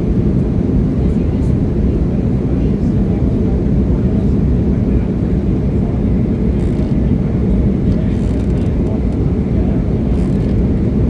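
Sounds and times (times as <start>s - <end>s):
jet cabin noise in flight: 0.0s - 11.0s.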